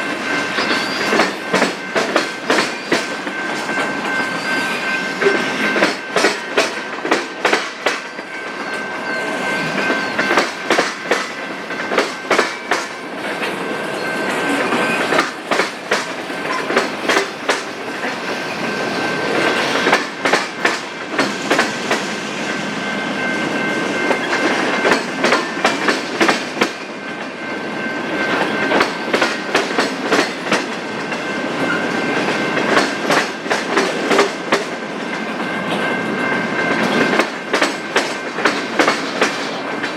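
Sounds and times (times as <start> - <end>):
train wheels clicking over rail joints: 0.1 - 4.4, 5.1 - 8.7, 9.6 - 22.4, 23.3 - 27.4, 28.3 - 39.9.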